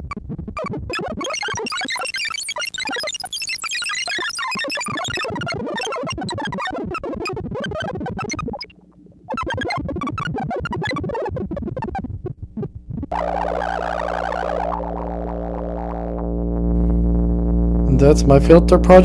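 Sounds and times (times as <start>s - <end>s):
steady buzzy tone: 0.0s - 19.0s
synth filter bleepy blips: 0.0s - 19.0s.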